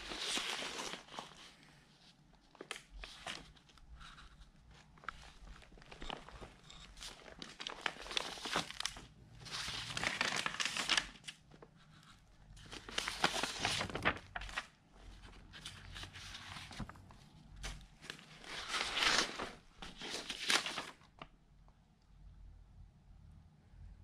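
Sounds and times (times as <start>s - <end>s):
paper rustling and crinkling: 0.0s - 21.3s.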